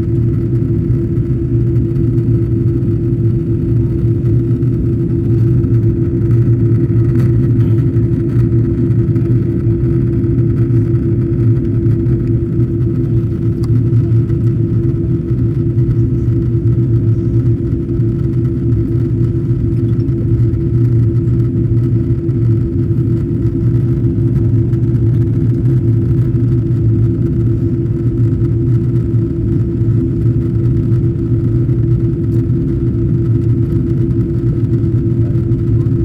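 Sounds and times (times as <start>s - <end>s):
airplane cabin drone: 0.0s - 36.0s.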